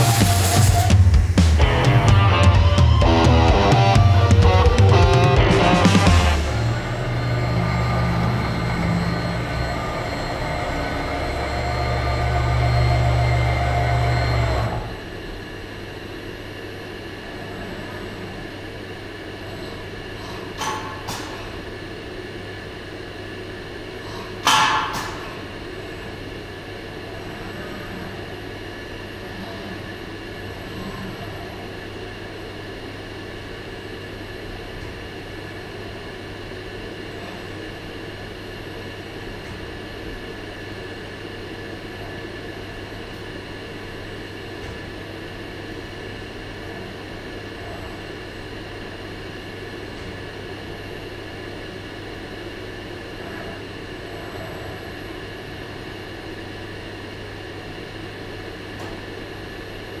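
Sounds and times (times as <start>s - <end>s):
machine hum: 0.0s - 60.0s.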